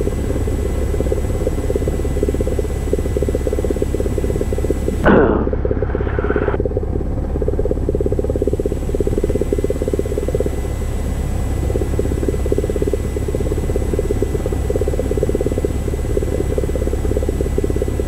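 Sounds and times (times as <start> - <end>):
aircraft piston engine idling: 0.0 - 18.0.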